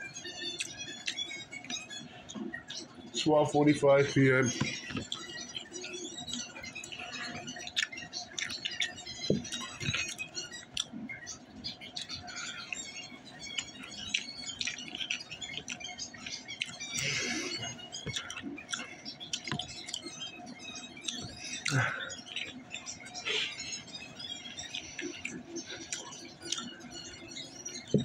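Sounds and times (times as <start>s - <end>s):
chewing and lip-smacking: 0.5s - 3.2s, 4.5s - 28.0s.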